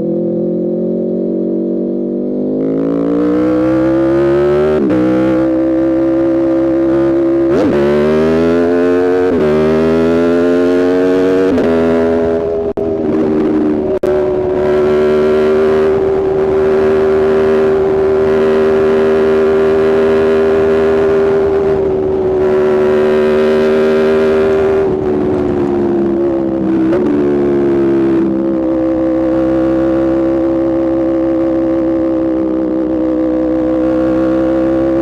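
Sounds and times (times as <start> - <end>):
motorcycle engine at steady speed: 0.0 - 35.0.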